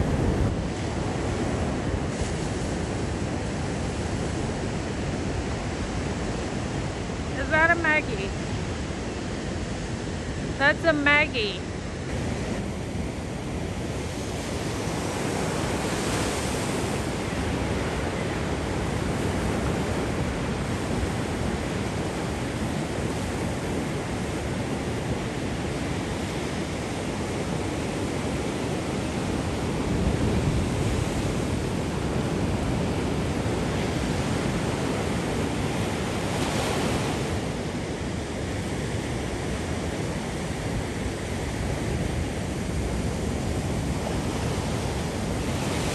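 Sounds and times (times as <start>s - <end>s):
ocean surf: 0.0s - 45.9s
wind: 0.0s - 45.9s.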